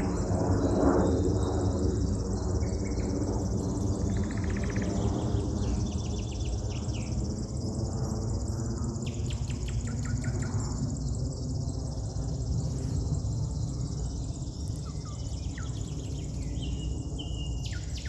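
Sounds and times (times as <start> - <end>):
wild birds singing: 0.0 - 7.7, 8.4 - 18.0
high insect trill: 0.0 - 18.0.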